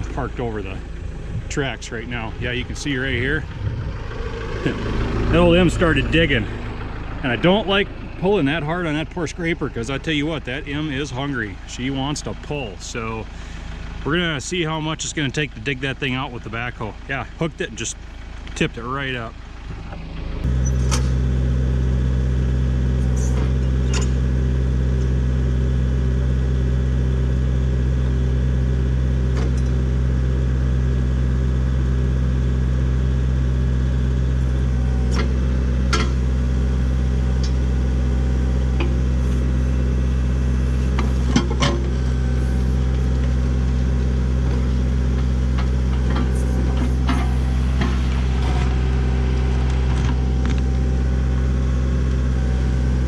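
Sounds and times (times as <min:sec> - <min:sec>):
machine engine running: 0:00.0 - 0:53.0.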